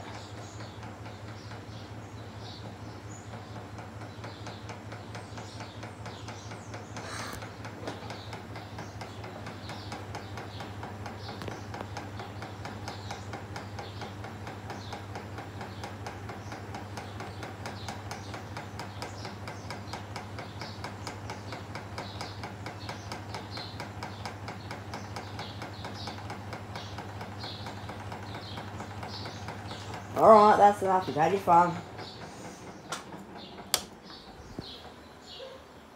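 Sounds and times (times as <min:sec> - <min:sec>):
ceiling fan motor hum: 0:00.0 - 0:35.9
fan clicking rattle: 0:00.0 - 0:35.9.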